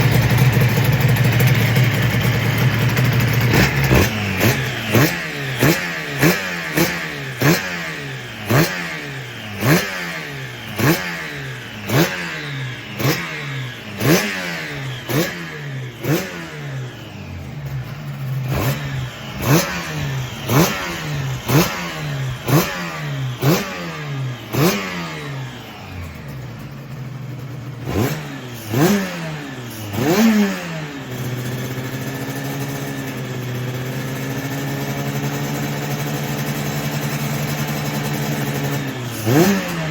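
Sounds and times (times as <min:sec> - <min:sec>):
engine revving in blips: 0:00.0 - 0:26.4, 0:27.8 - 0:33.8, 0:34.9 - 0:39.9
engine idling: 0:00.0 - 0:39.9.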